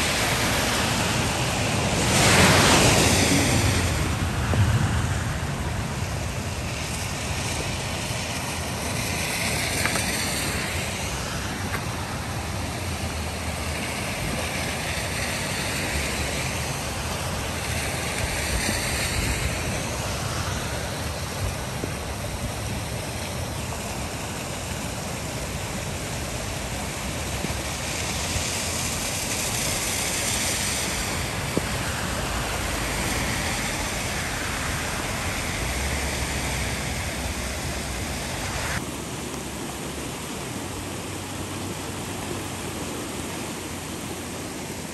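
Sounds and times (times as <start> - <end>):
floodwater rushing: 0.0 - 44.9.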